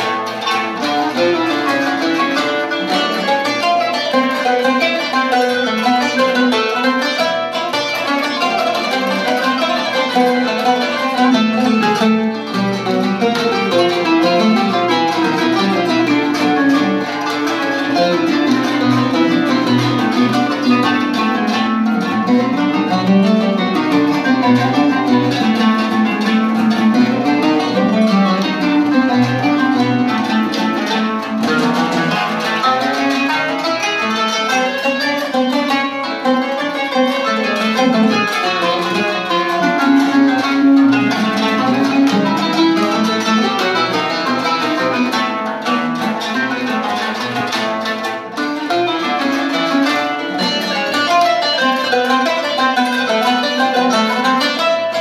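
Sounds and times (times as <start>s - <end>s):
kanun plucked notes: 0.0s - 55.0s
oud plucked notes: 0.0s - 55.0s.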